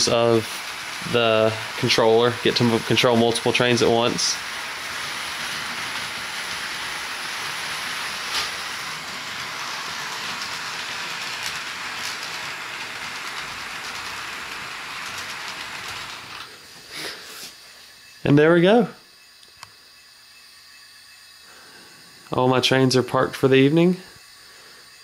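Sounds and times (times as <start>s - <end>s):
model train motors whirring: 0.0s - 25.0s.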